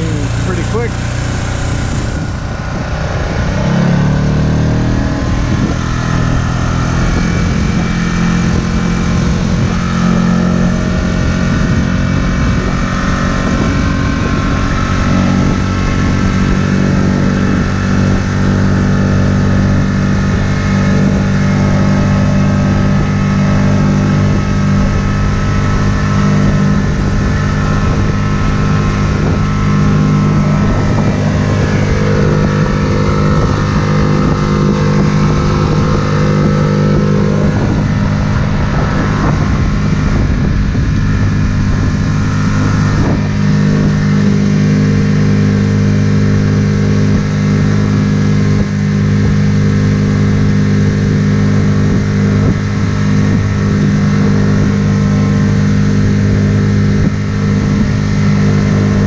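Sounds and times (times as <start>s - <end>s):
outboard motor running at high speed: 0.0s - 59.0s.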